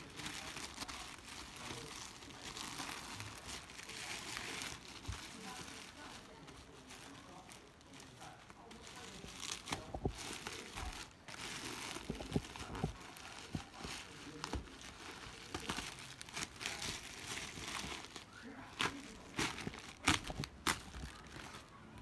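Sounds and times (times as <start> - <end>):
plastic bag crinkling and tearing: 0.0 - 22.0.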